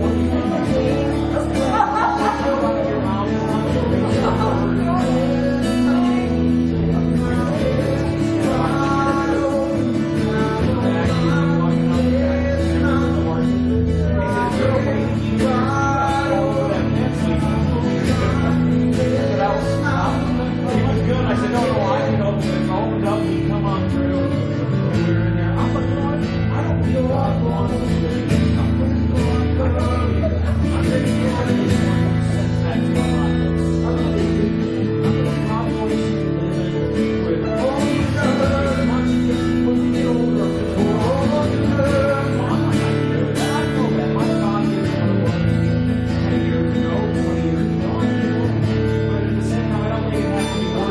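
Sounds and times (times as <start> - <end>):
guitar strumming: 0.0 - 50.9
person singing: 0.0 - 50.9.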